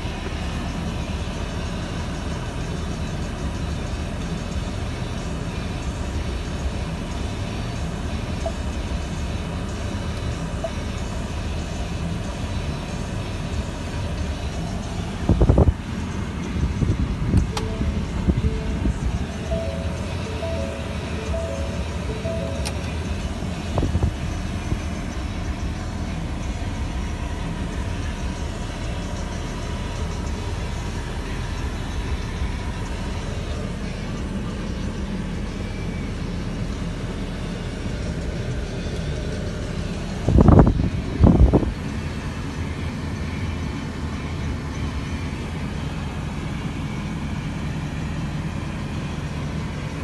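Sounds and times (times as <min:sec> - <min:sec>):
climate-control fan: 0:00.0 - 0:50.0
pickup engine idling: 0:00.0 - 0:50.0.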